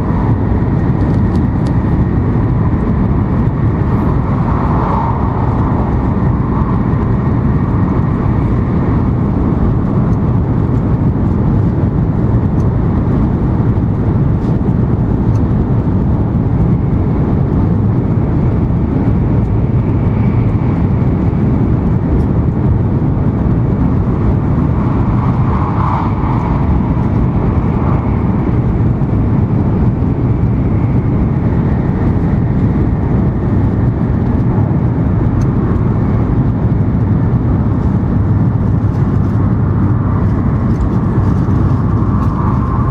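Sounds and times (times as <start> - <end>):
train rumble inside cabin: 0.0 - 42.9.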